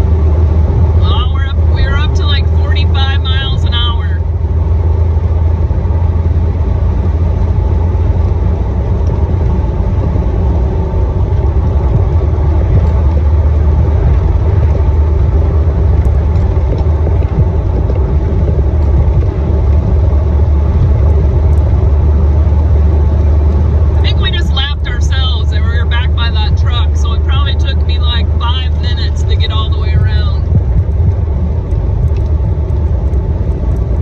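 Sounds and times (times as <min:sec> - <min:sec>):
car interior driving rumble: 0:00.0 - 0:34.0.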